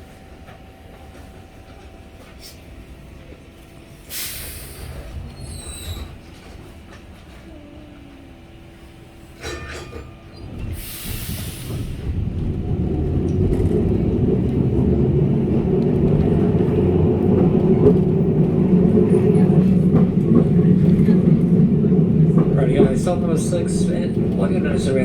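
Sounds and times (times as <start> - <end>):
tram wheels and motor rumbling: 0.0 - 25.0.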